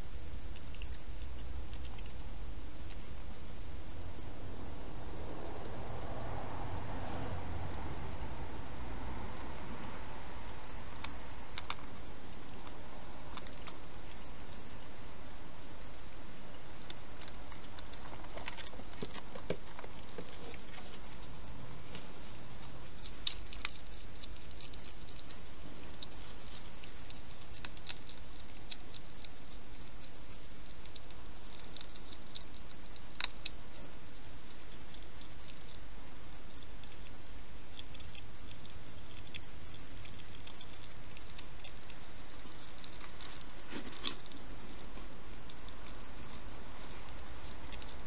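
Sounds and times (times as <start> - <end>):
hedgehog eating clicks: 0.0 - 48.0
steady background hiss: 0.0 - 48.0.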